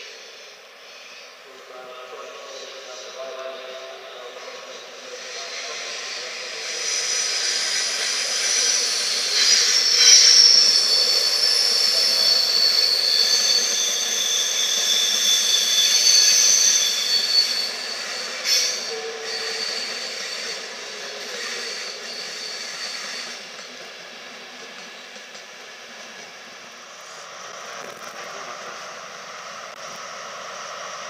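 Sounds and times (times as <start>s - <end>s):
train brakes squealing: 0.0s - 31.0s.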